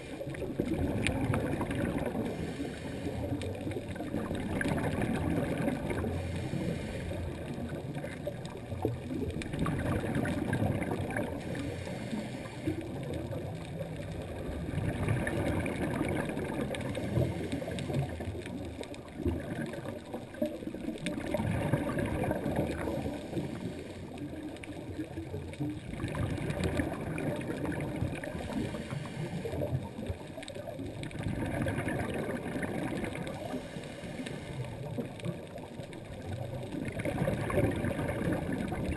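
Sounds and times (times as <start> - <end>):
muffled underwater gurgling rumble: 0.0 - 38.9.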